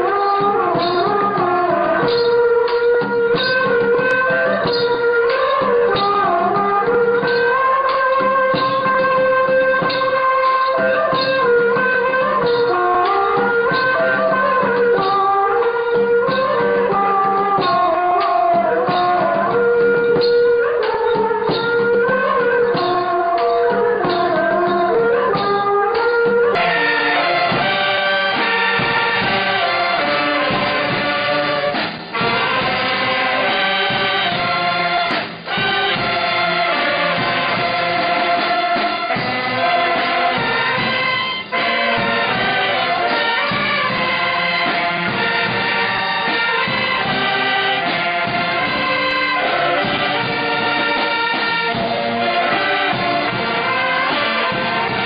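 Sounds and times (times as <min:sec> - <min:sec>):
brass band with saxophones: 0:00.0 - 0:55.0
different music: 0:00.0 - 0:55.0.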